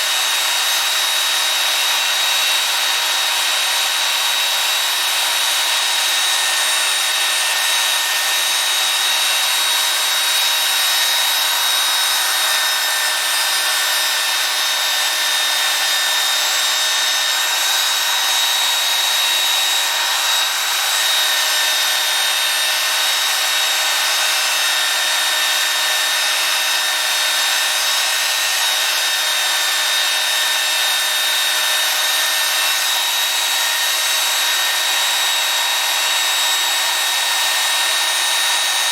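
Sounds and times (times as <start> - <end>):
belt sander running: 0.0 - 38.9
workpiece rasping on sanding belt: 0.0 - 38.9.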